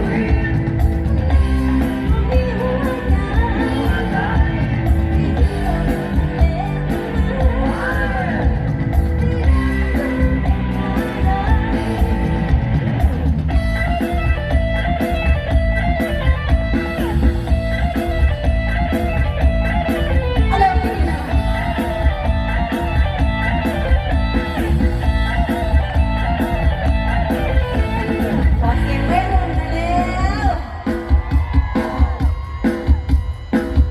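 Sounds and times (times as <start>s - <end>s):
guitar melody: 0.0s - 30.5s
live band music: 0.0s - 33.9s.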